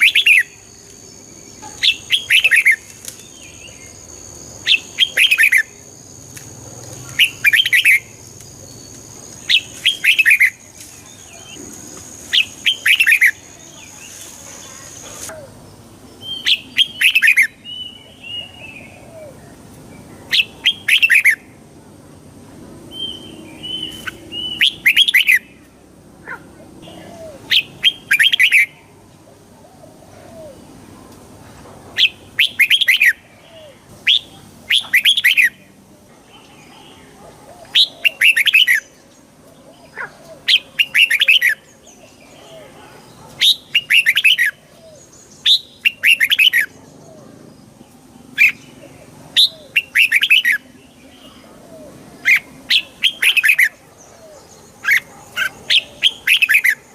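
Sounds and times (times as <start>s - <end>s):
bird singing warbling phrases: 0.0s - 11.7s, 12.3s - 15.6s, 16.2s - 21.6s, 22.9s - 25.6s, 26.3s - 28.9s, 32.0s - 56.9s.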